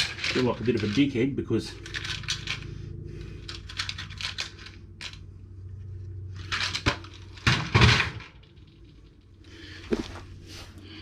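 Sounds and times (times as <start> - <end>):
scraping crunching handling noises: 0.0 - 5.2, 6.4 - 11.0.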